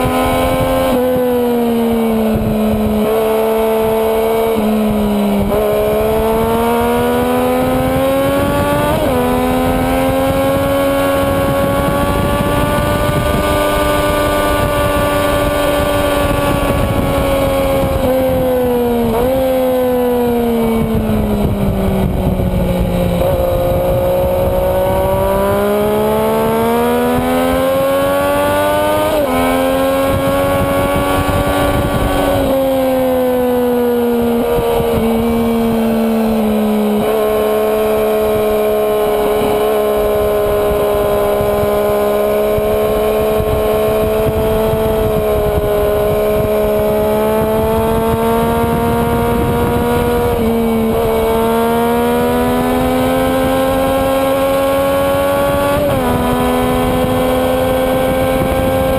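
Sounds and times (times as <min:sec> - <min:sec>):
motorcycle engine revving: 0:00.0 - 0:58.9
wind rushing: 0:00.0 - 0:58.9.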